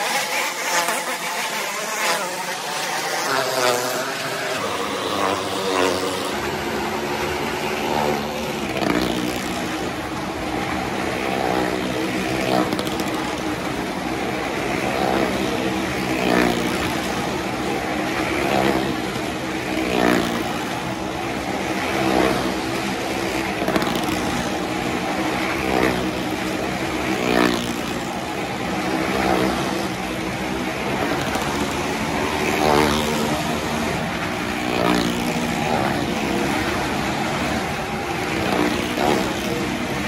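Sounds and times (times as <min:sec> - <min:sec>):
motorcycle engines revving: 0:00.0 - 0:40.0.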